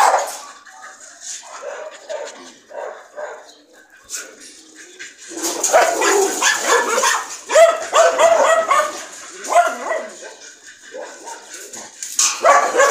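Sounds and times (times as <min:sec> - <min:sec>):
dogs barking and yipping: 0:00.0 - 0:12.9.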